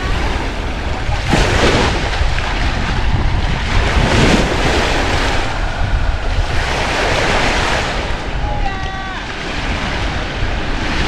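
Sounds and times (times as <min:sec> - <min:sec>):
waves washing onto beach: 0:00.0 - 0:11.0
wind rumbling on microphone: 0:00.0 - 0:11.0.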